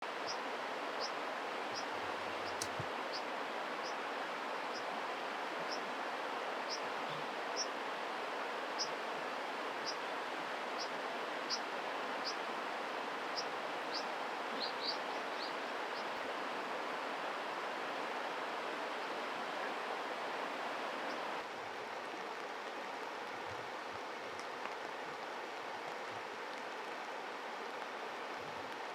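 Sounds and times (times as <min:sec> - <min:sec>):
mountain stream rushing: 0:00.0 - 0:28.9.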